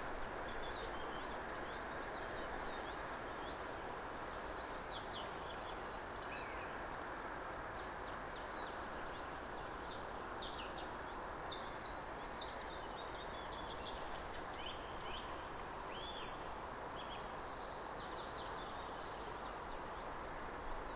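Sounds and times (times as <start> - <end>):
songbirds chirping and trilling: 0.0 - 20.9.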